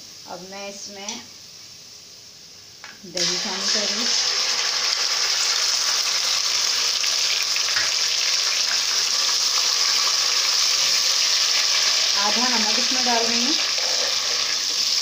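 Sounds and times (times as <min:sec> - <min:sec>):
yogurt sizzling in hot ghee: 0:00.0 - 0:15.0.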